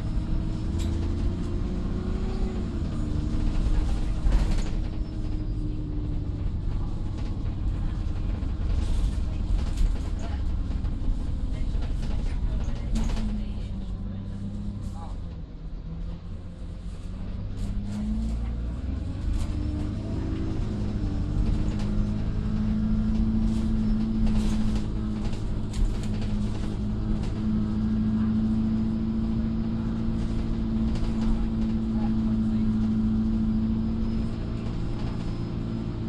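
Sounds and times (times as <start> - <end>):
bus engine drone: 0.0 - 36.0
rattles and clicks: 0.3 - 14.8, 17.5 - 35.8.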